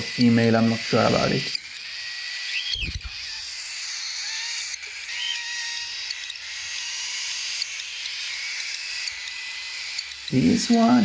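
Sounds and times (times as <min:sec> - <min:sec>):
baby birds raspy begging calls: 0:00.0 - 0:11.0.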